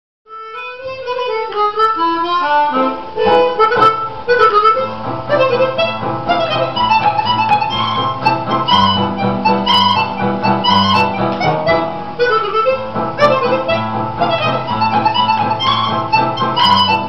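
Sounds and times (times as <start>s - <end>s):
harmonica melody: 0.3s - 17.0s.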